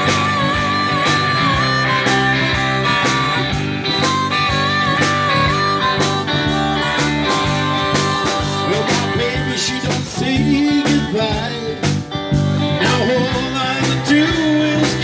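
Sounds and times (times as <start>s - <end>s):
blues-rock band playing: 0.0s - 15.0s
harmonica solo with bent notes: 0.0s - 15.0s.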